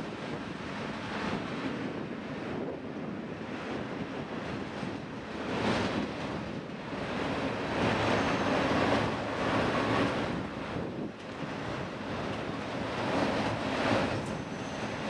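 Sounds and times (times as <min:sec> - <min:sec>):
train wheels rolling on track: 0:00.0 - 0:15.0.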